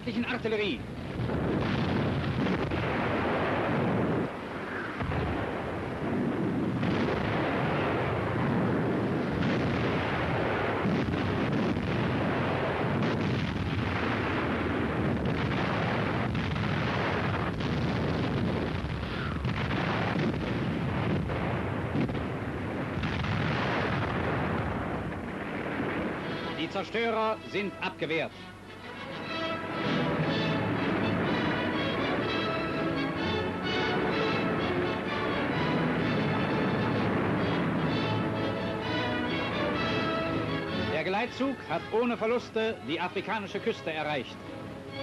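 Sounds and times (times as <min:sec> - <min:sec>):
heavy naval gunfire: 0:00.0 - 0:45.0
shells bursting: 0:00.1 - 0:45.0.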